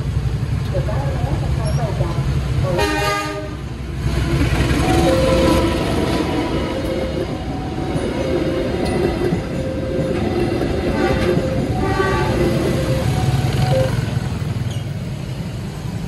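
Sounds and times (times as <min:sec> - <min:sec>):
train carriages rumbling and rattling: 0:00.0 - 0:16.0.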